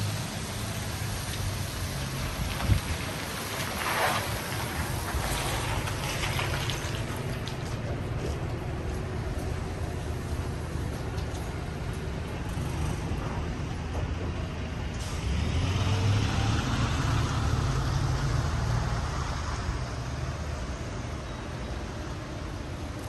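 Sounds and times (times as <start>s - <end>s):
low engine rumble: 0.0s - 23.0s
street traffic: 0.0s - 23.0s.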